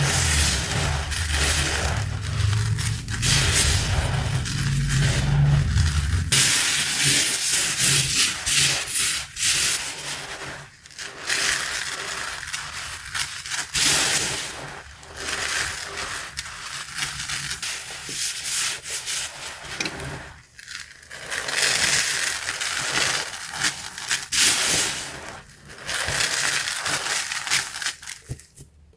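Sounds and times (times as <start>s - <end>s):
cornstarch crunching: 0.0s - 18.0s, 19.3s - 28.6s.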